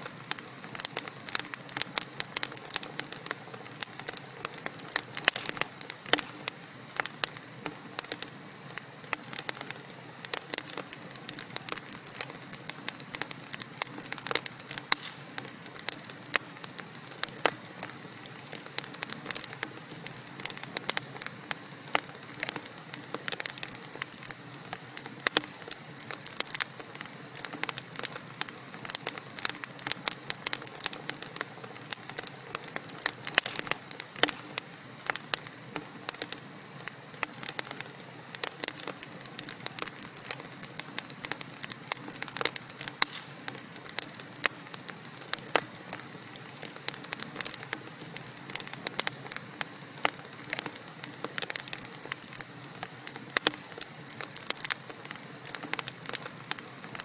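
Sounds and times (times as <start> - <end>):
burning logs popping and snapping: 0.0 - 57.0
soft fire hiss: 0.0 - 57.0.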